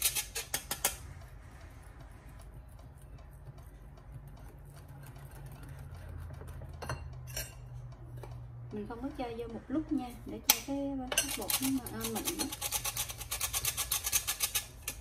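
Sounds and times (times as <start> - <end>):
low steady hum: 0.0 - 13.4.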